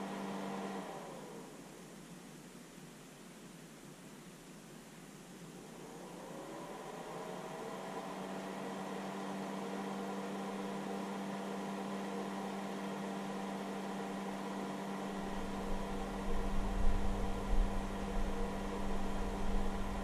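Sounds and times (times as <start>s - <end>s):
cooling fan hum: 0.0s - 20.0s.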